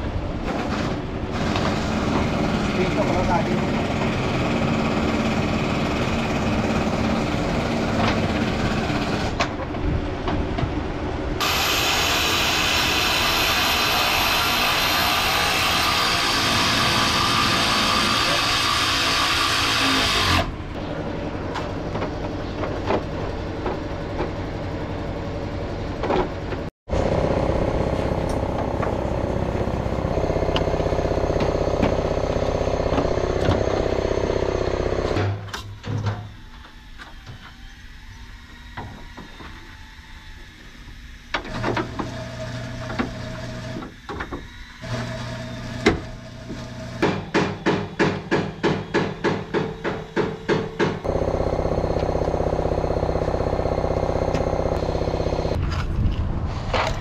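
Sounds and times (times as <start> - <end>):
workshop noise: 0.0 - 36.4, 41.4 - 57.0
steady mechanical hum: 0.0 - 57.0.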